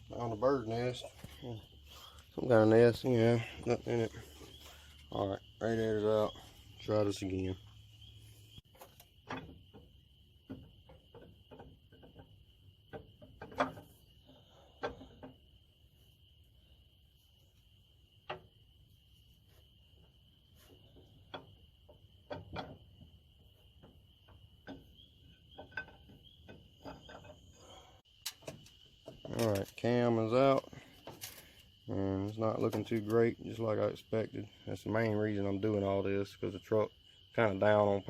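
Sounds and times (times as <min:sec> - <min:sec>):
crickets chirring: 0:00.0 - 0:38.0.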